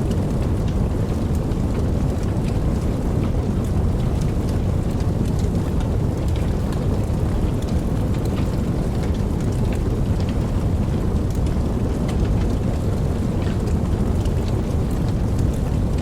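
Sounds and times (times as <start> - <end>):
steady rain rumble: 0.0 - 16.0
raindrops ticking: 0.1 - 16.0.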